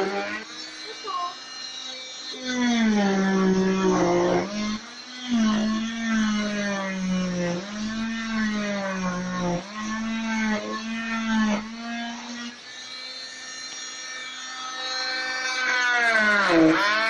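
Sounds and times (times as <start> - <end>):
cast saw motor whine: 0.0 - 17.0.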